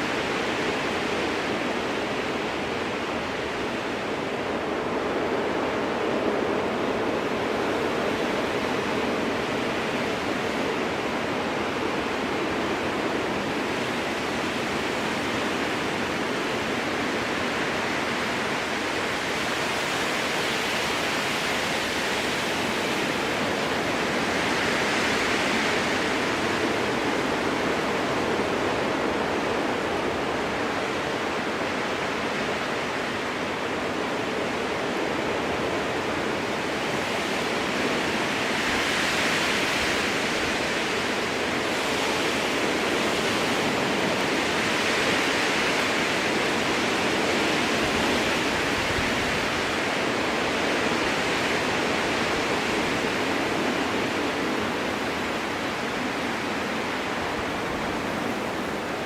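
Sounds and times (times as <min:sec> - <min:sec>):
strong wind through trees: 0:00.0 - 0:59.0.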